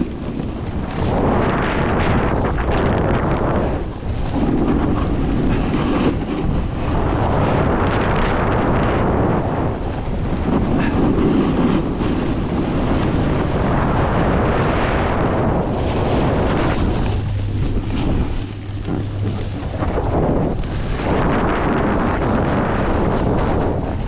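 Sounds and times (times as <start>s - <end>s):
snowboard edge scraping snow: 0.0s - 24.0s
wind buffeting microphone: 0.0s - 24.0s.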